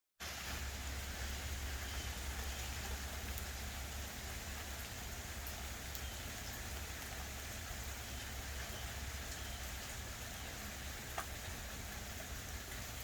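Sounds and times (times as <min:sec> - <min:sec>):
light rain falling: 0:00.2 - 0:13.0.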